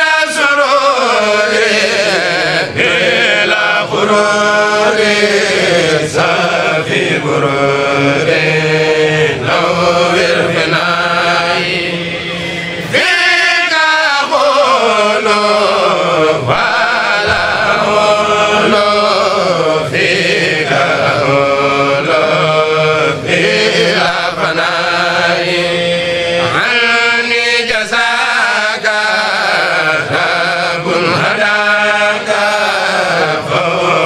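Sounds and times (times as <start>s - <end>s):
group chanting devotional poetry: 0.0s - 34.0s.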